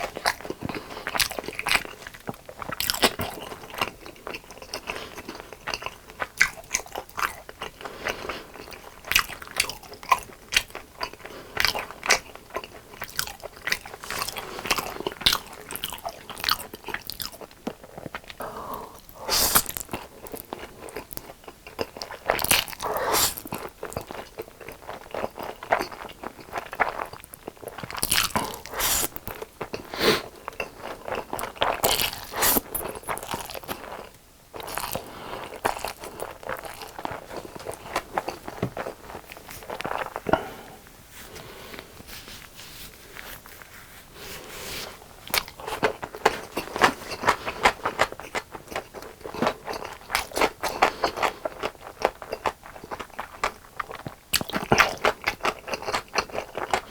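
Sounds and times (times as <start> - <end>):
crunching fried chicken: 0.0 - 40.2, 45.2 - 56.9.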